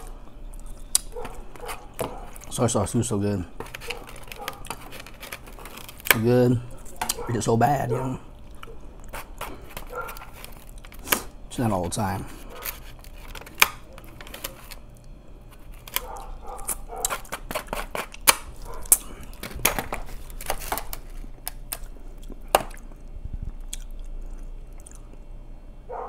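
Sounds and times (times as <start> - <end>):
man chewing: 0.0 - 26.0.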